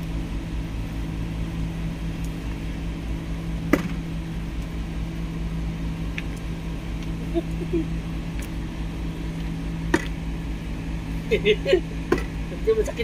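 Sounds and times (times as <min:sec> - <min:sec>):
low machine hum: 0:00.0 - 0:13.0
low rumble: 0:00.0 - 0:13.0.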